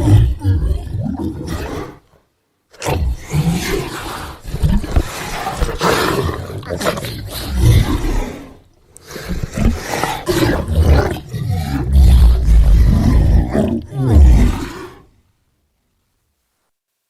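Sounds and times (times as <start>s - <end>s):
demon creature growling: 0.0s - 2.0s, 2.8s - 15.1s.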